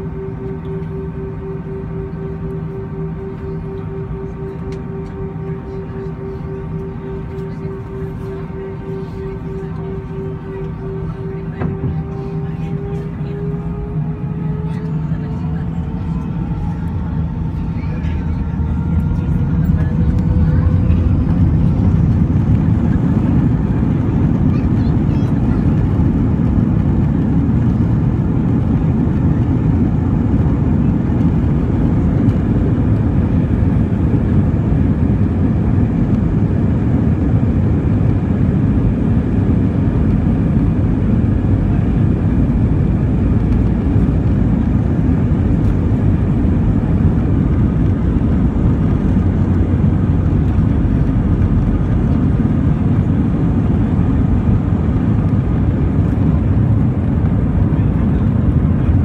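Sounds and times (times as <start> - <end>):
jet engines low rumble in cabin: 0.0 - 59.0.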